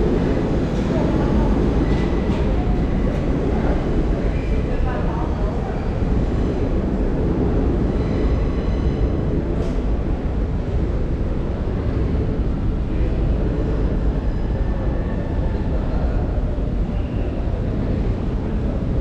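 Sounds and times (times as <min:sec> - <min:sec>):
subway station rumble: 0:00.0 - 0:19.0.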